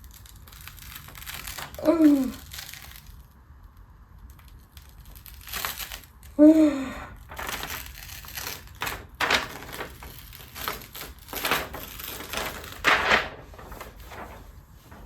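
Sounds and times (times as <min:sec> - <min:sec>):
plastic film crinkling: 0:00.0 - 0:15.0.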